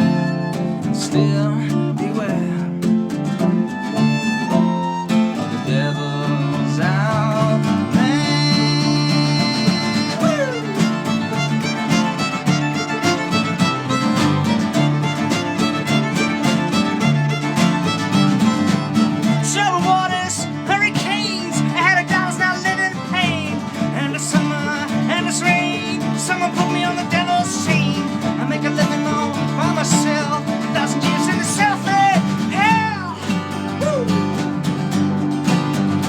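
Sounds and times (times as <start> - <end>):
violin melody: 0.0 - 35.4
folk-rock band playing: 0.0 - 36.0.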